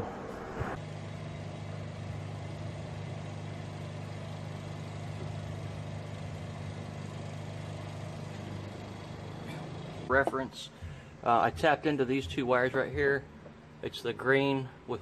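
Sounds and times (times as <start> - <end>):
motor humming: 0.0 - 12.3.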